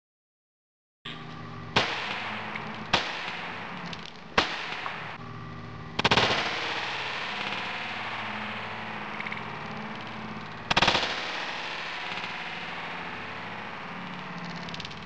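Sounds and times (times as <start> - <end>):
rapid gunshot cracks: 1.7 - 5.2, 6.0 - 15.0
revolver shots: 1.7 - 5.2, 5.9 - 15.0.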